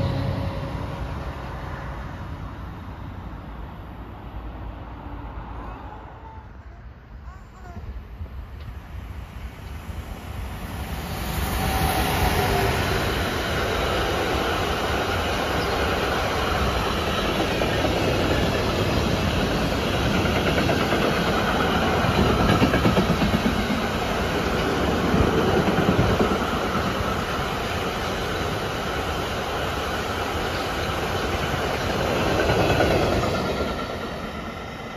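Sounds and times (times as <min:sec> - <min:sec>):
freight train wheels on rails: 0:00.0 - 0:05.6, 0:07.6 - 0:34.9.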